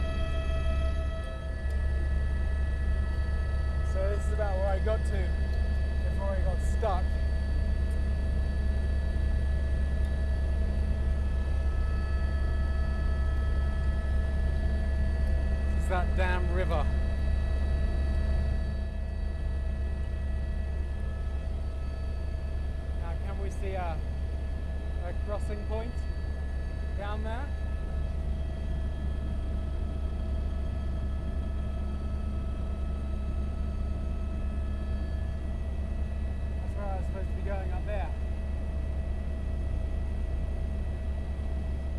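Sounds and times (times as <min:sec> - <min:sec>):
helicopter rotor and engine rumble: 0:00.0 - 0:41.9
turbine whining: 0:00.0 - 0:41.9.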